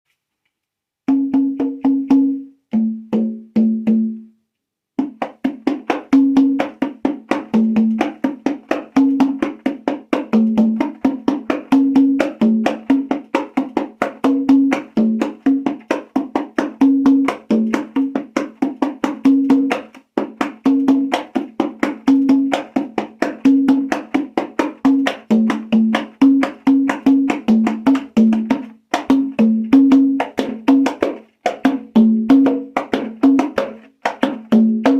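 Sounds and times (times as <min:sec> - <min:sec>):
congas played by hand: 0:01.0 - 0:34.9.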